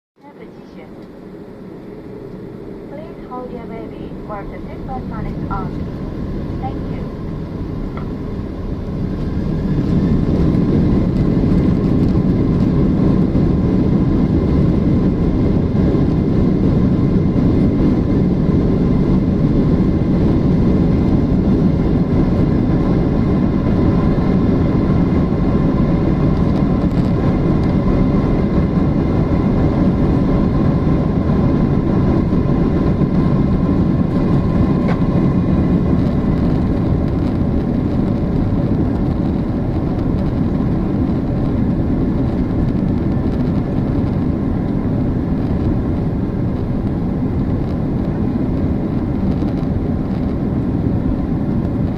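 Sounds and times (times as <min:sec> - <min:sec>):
airliner cabin engine rumble: 0:00.2 - 0:51.9
faint steady whine: 0:00.2 - 0:51.9.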